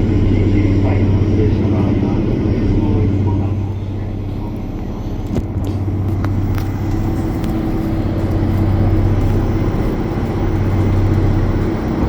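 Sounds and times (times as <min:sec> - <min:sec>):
train engine hum: 0:00.0 - 0:12.0
wheels rumbling on track: 0:00.0 - 0:12.0.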